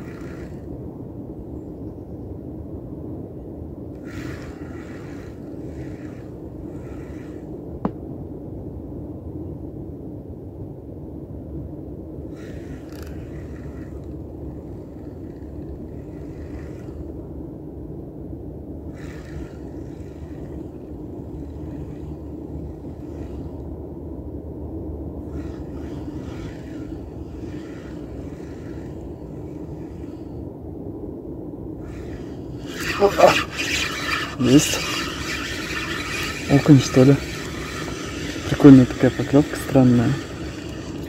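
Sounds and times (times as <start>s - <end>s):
fishing reel ticking whir: 0.0s - 1.8s, 3.7s - 8.0s, 12.2s - 30.7s, 31.6s - 41.0s.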